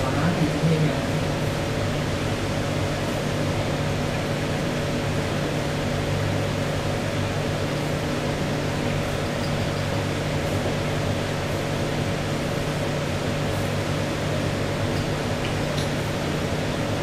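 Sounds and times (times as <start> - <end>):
low held hum: 0.0 - 17.0.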